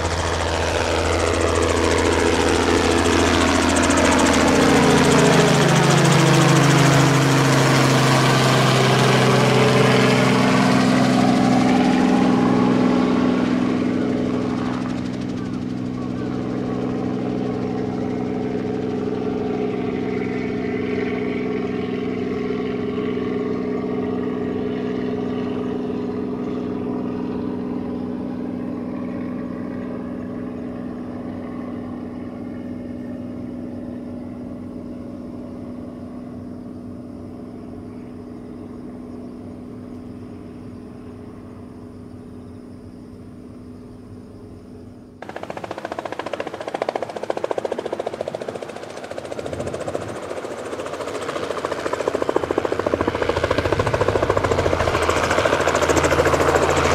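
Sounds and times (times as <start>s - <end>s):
choppy helicopter rotor beat: 0.0s - 41.9s, 45.2s - 56.9s
helicopter rotor and engine hum: 0.0s - 56.9s.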